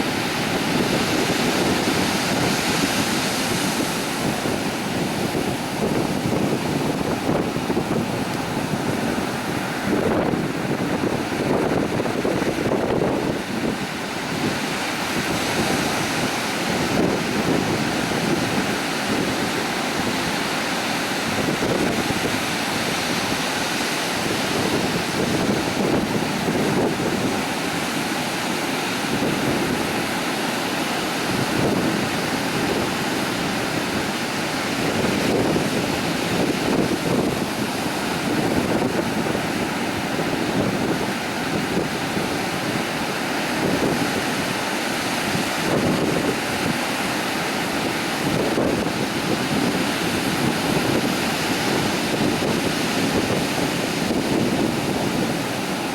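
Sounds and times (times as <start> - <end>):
ocean surf washing onto beach: 0.0 - 55.9
wind buffeting microphone: 0.0 - 55.9.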